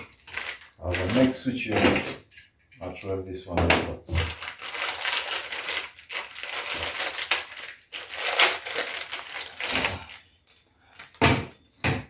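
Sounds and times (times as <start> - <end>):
packaging crinkling and rustling: 0.0 - 2.1, 4.0 - 11.8.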